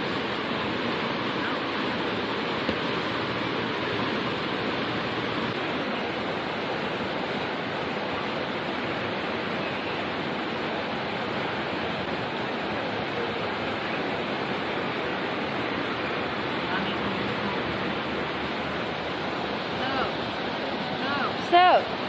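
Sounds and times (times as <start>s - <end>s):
river rushing over boulders: 0.0s - 22.0s.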